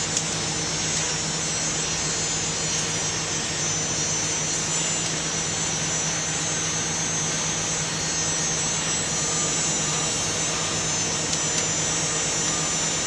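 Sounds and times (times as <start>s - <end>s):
high whine: 0.0s - 13.0s
hydraulic power unit humming: 0.0s - 13.0s.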